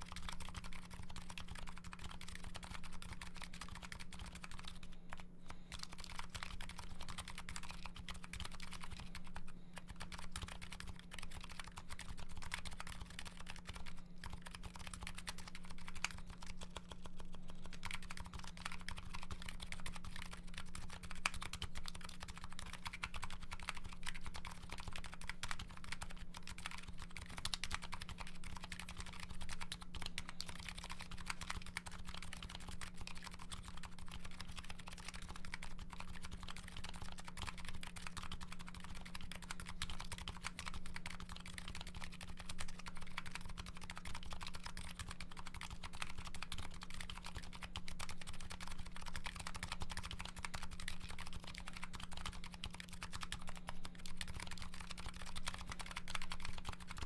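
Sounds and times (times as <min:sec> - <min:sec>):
mechanical keyboard typing: 0:00.0 - 0:57.0.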